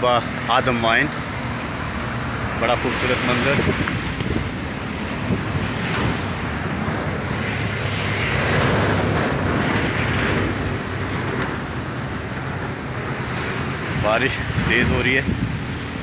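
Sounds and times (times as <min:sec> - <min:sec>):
wind gusting on microphone: 0:00.0 - 0:16.0.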